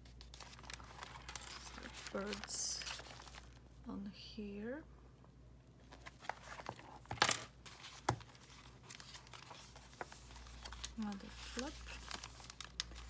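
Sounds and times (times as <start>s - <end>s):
paper pages rustling: 0.0s - 3.6s, 5.8s - 13.0s.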